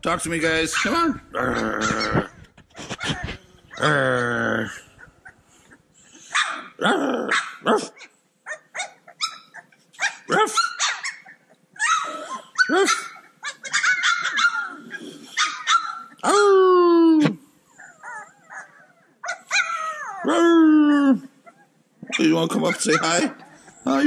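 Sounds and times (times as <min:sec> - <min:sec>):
puppies yipping and barking: 0:00.7 - 0:03.9, 0:04.9 - 0:16.2, 0:17.7 - 0:20.3, 0:21.4 - 0:24.0.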